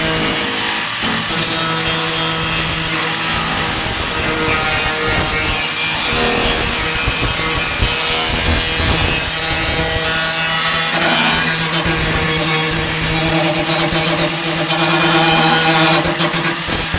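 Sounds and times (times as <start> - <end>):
angle grinder grinding steel: 0.0 - 16.9.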